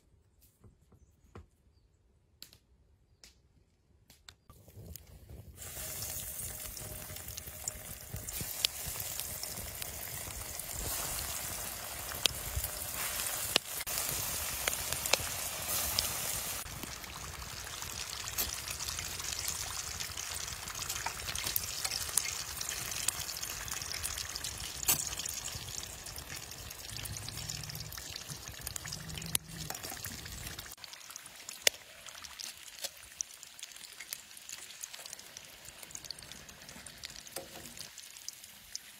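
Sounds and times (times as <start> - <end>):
food deep-frying in oil: 4.6 - 38.9.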